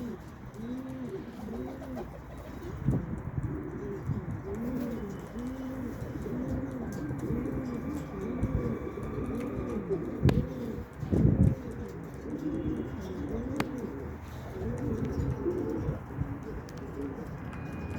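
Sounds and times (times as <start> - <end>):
pigeons cooing: 0.0 - 17.9.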